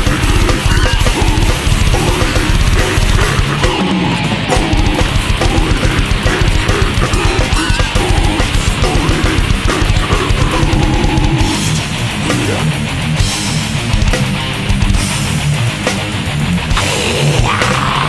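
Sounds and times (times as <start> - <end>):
distorted electric guitar riffing: 0.0 - 18.0.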